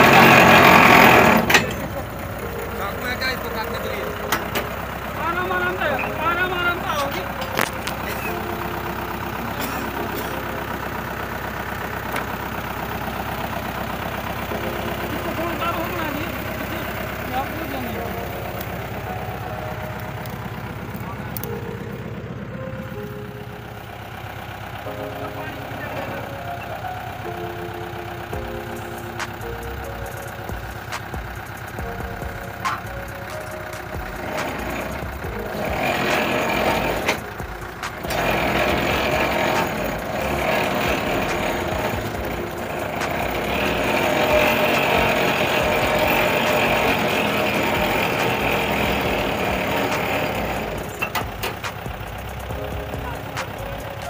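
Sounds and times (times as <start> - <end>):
rig engine running: 0.0 - 54.0.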